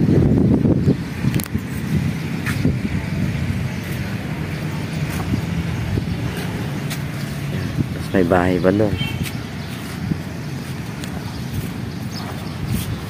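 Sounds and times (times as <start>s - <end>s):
traffic noise: 0.0s - 13.0s
vehicle engine humming: 0.0s - 13.0s.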